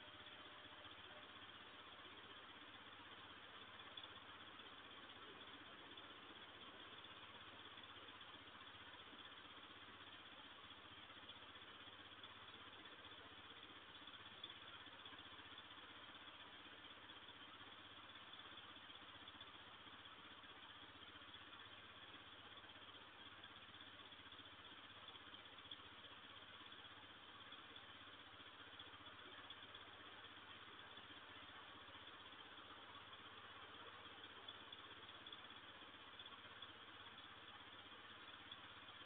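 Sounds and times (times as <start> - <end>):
faint hiss: 0.0 - 39.0
low hum: 0.0 - 39.0.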